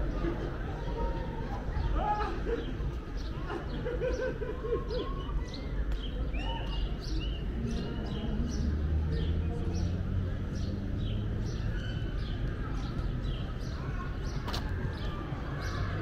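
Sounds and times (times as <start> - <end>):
people's voices: 0.0 - 16.0.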